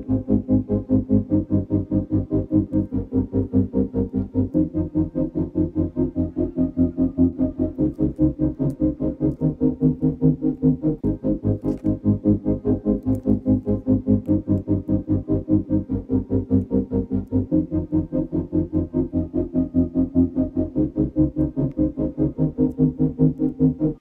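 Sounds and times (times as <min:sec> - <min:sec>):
music with pulsing chords: 0:00.0 - 0:24.0.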